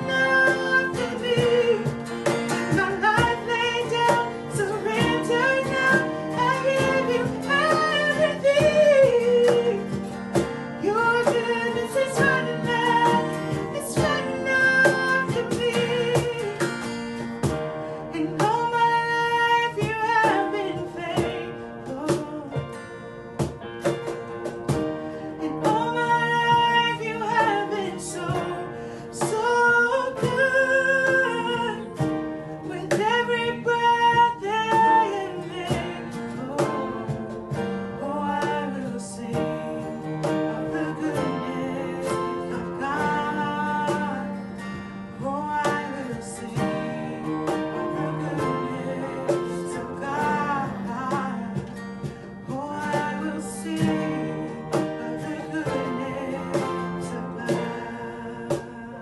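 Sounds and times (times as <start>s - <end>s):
acoustic guitar strumming: 0.0s - 59.0s
keyboard chords: 0.0s - 59.0s
person singing: 0.0s - 59.0s.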